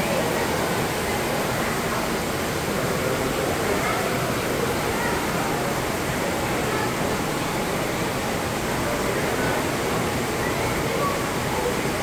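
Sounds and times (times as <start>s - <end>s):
waterfall splashing into tank: 0.0s - 12.0s.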